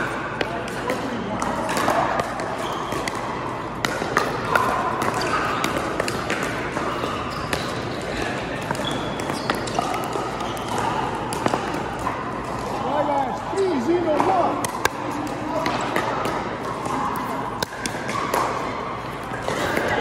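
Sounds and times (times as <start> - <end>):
paddles hitting plastic ball: 0.4 - 13.3, 13.9 - 20.0.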